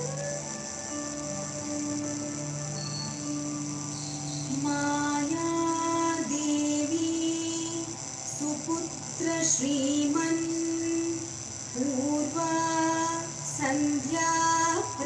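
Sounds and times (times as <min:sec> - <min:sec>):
steady held drone: 0:00.0 - 0:15.0
woman singing devotional melody: 0:00.0 - 0:15.0.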